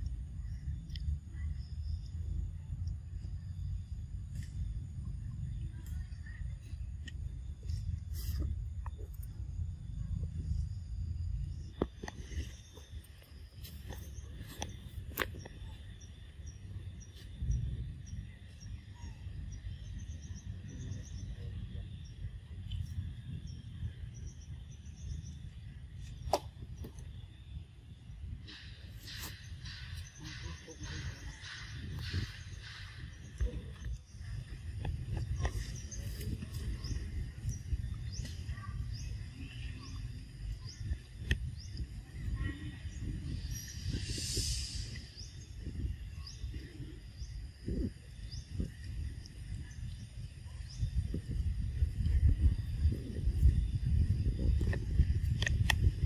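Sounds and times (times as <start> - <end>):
insect drone: 0.0 - 56.0
low rumble: 0.0 - 56.0.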